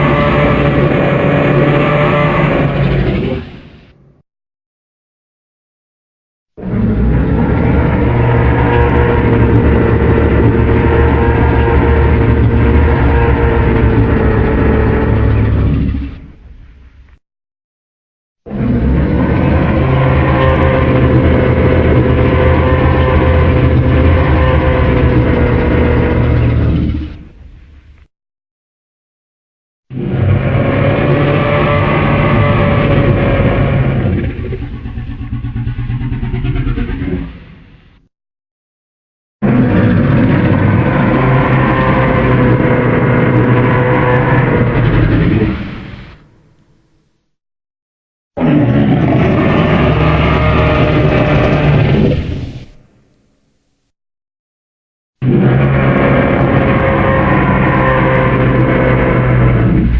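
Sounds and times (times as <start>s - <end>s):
rumbling sound with held tone: 0.0s - 4.2s, 6.6s - 17.2s, 18.5s - 28.1s, 29.9s - 38.1s, 39.4s - 47.4s, 48.4s - 53.9s, 55.2s - 59.9s.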